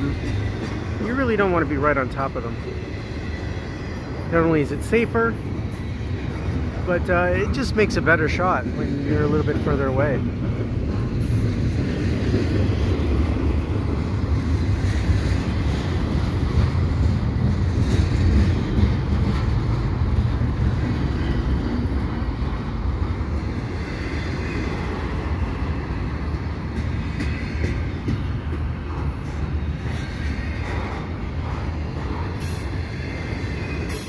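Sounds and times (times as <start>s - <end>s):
steel wheels rumbling on rails: 0.0s - 34.0s.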